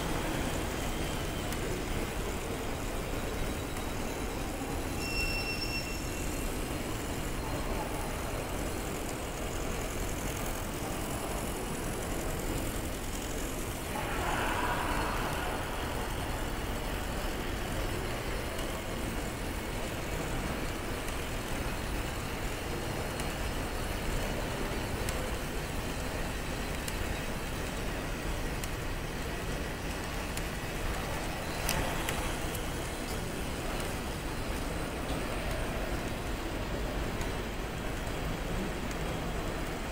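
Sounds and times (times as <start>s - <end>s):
toy ride motors whirring: 0.0s - 39.9s.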